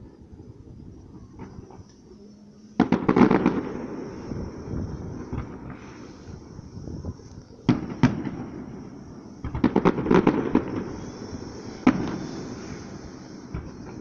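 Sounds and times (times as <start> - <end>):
fireworks crackling: 0.0 - 14.0
fireworks bangs: 1.1 - 14.0.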